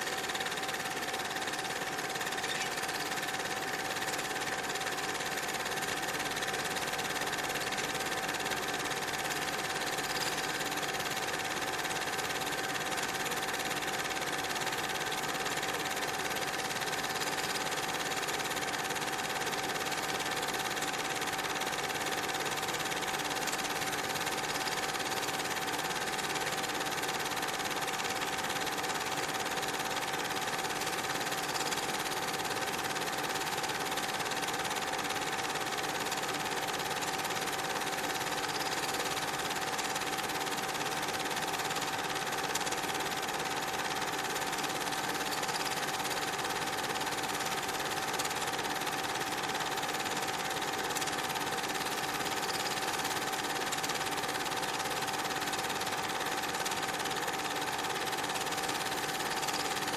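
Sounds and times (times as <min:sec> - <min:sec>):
small machine whirring: 0:00.0 - 0:59.9.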